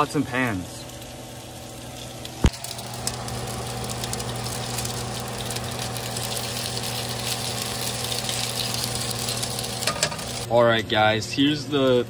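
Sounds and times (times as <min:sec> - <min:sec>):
food frying in a pan: 0:00.0 - 0:10.5.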